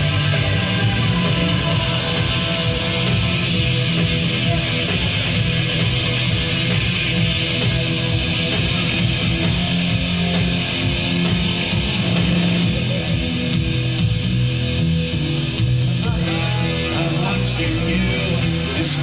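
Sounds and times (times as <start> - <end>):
loud guitar music with bass: 0.0 - 19.0.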